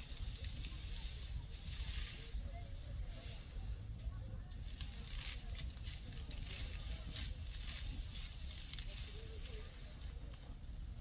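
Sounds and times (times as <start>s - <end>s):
dry wheat stalks crackling: 0.0s - 11.0s.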